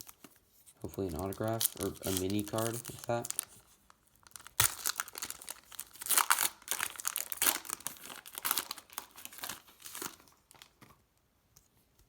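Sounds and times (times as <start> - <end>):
plastic wrapper tearing and crinkling: 0.0 - 10.9.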